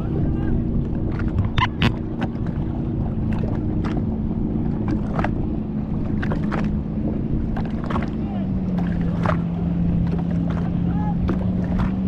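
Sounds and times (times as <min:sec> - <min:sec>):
watercraft engine droning: 0:00.0 - 0:12.0
wind rumble on microphone: 0:00.0 - 0:12.0.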